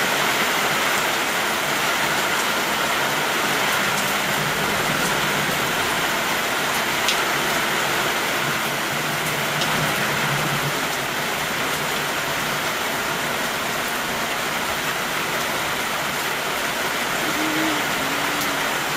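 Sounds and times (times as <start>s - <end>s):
heavy rain hissing: 0.0s - 18.9s.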